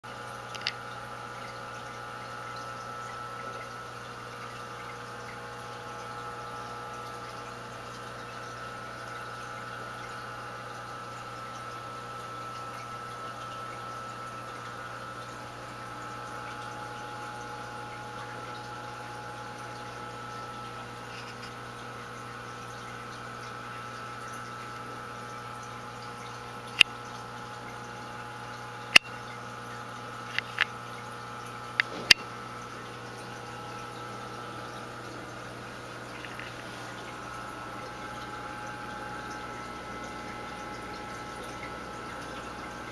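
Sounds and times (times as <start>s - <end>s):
aquarium filter humming: 0.0s - 42.9s
water trickling: 0.1s - 42.9s.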